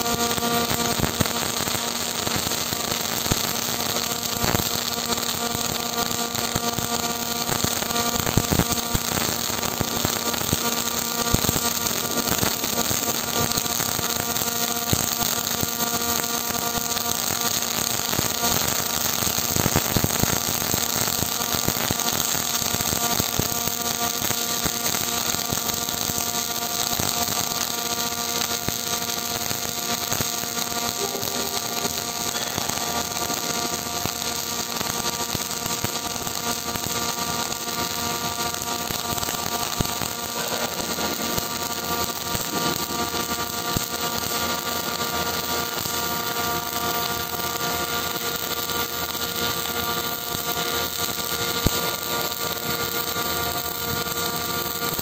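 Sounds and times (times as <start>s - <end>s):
steady multi-tone hum: 0.0s - 55.0s
welding arc crackling: 0.0s - 55.0s.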